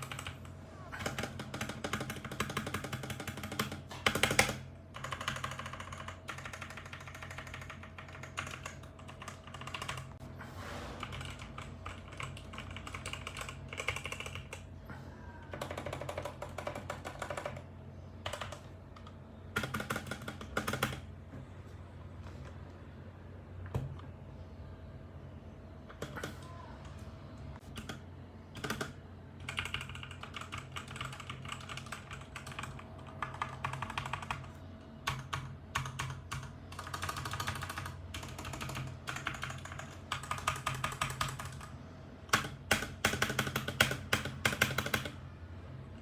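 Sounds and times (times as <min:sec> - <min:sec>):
computer keyboard typing: 0:00.0 - 0:10.2, 0:11.0 - 0:14.7, 0:15.5 - 0:21.1, 0:25.9 - 0:26.6, 0:27.6 - 0:45.2
steady low hum: 0:00.0 - 0:46.0.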